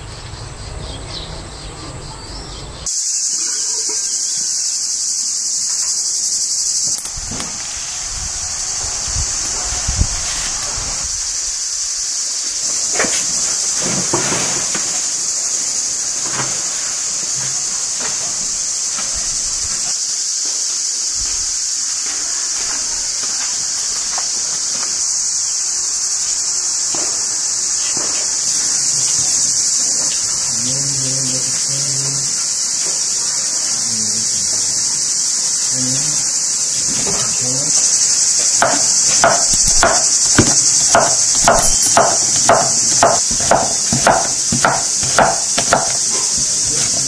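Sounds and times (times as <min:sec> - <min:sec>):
insect chorus shrilling: 0:00.0 - 0:47.0.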